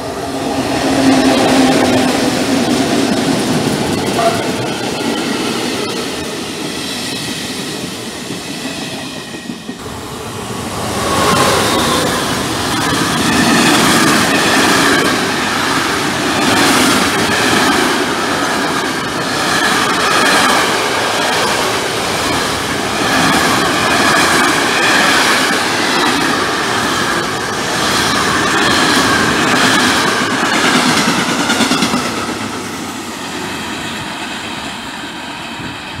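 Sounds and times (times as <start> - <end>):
train wheels rumbling and clattering: 0.0 - 36.0.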